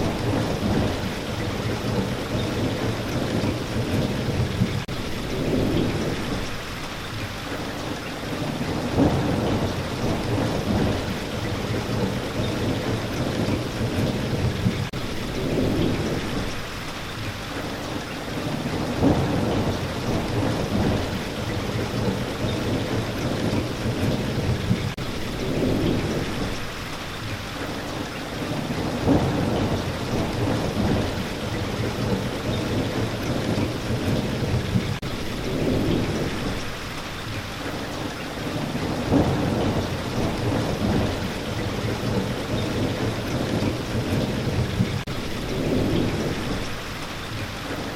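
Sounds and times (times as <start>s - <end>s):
heavy rain: 0.0s - 47.9s
low rolling thunder: 0.0s - 47.9s.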